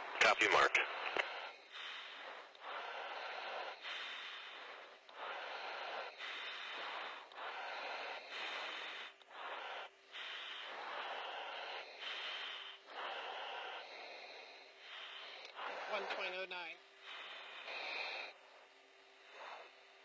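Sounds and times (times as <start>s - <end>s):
hissing breaths through mask microphone: 0.0s - 20.0s.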